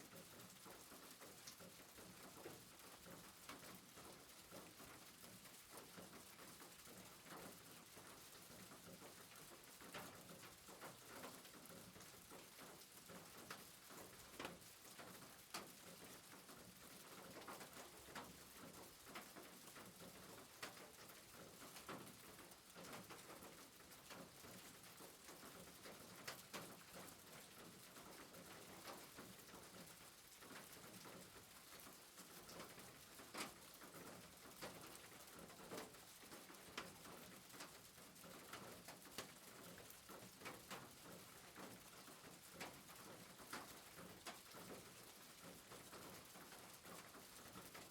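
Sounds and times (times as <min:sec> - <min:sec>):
soft rain hiss: 0:00.0 - 0:47.9.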